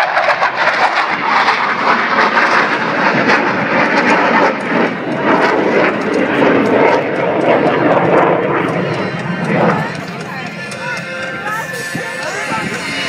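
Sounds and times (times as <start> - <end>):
aircraft engine flying overhead: 0.0 - 13.0.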